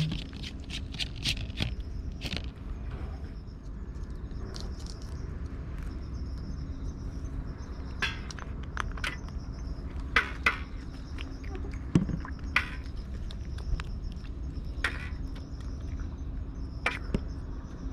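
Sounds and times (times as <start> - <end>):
insect chirping: 0.0 - 17.9.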